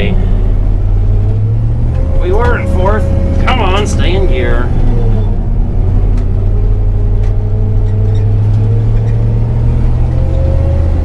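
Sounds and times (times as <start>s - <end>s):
combine engine droning: 0.0s - 11.0s.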